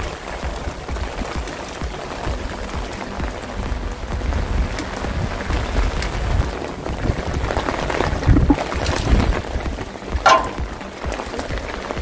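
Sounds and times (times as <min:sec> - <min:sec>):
gusty wind buffeting microphone: 0:00.0 - 0:10.8.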